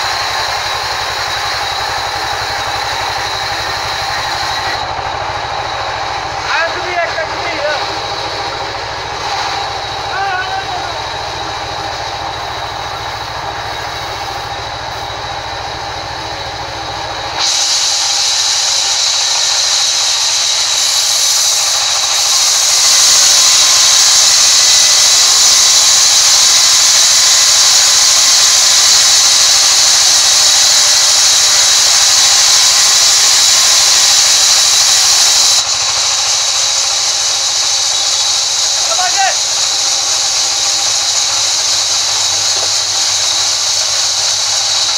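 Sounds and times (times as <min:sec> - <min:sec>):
band saw cutting through wood: 0:00.0 - 0:44.9.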